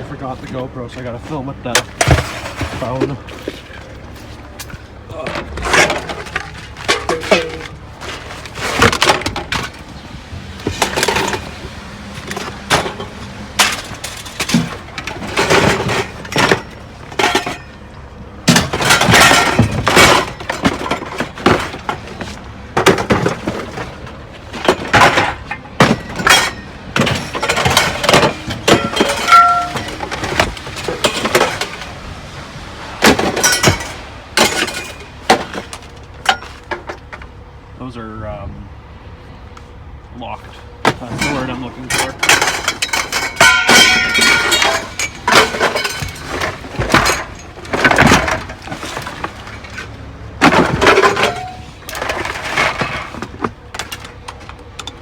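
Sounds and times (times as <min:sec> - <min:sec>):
scrap metal knocking and clattering: 0:00.2 - 0:32.3, 0:33.0 - 0:37.4, 0:40.6 - 0:55.0.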